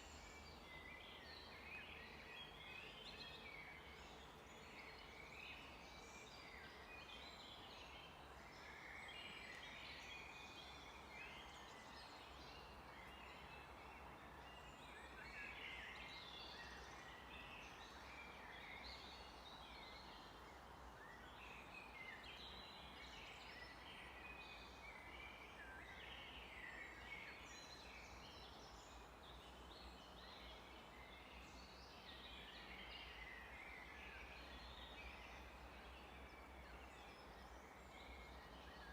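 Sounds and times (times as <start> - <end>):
low background hiss: 0.0 - 38.9
songbirds chorus: 0.0 - 38.9.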